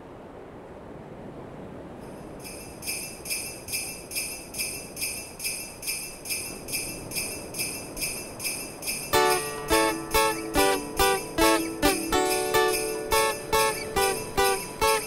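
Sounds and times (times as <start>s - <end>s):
ocean surf: 0.0s - 15.0s
jingle bells shaken: 2.4s - 15.0s.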